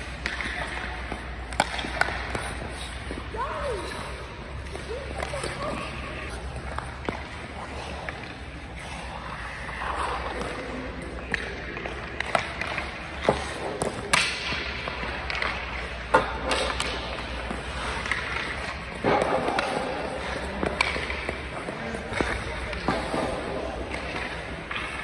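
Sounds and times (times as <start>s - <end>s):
hockey stick knocking puck: 0.0s - 3.2s, 6.6s - 8.5s, 9.3s - 25.0s
skate blades scraping ice: 0.0s - 25.0s.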